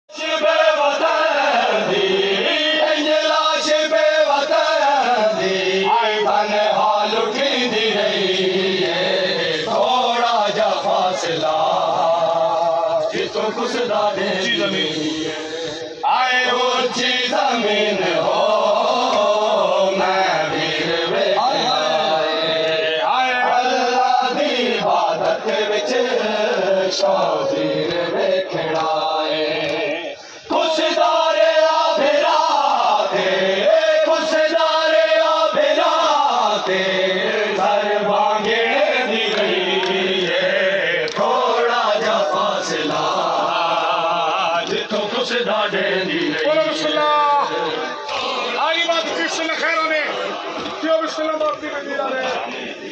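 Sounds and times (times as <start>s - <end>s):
men chanting a lament: 0.1s - 52.9s.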